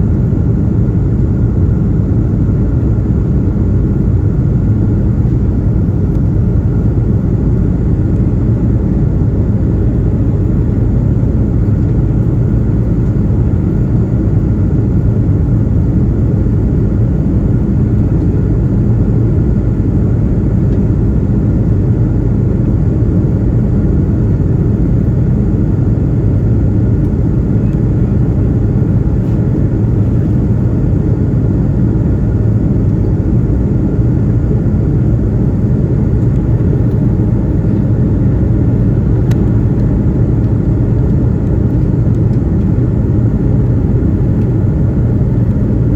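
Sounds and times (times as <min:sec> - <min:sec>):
jet engines and airflow in cabin: 0:00.0 - 0:45.9.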